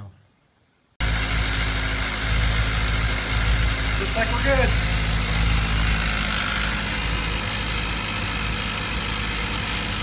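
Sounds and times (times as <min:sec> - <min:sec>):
motorcycle engine idling: 0:01.0 - 0:10.0.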